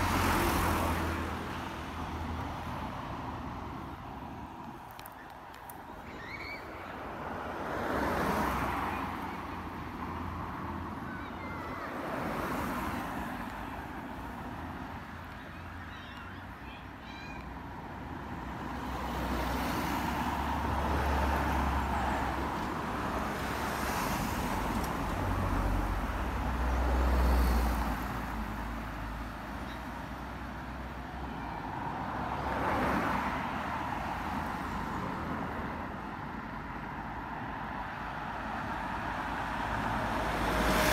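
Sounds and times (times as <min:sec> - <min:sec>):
cars passing on road: 0:00.0 - 0:40.9.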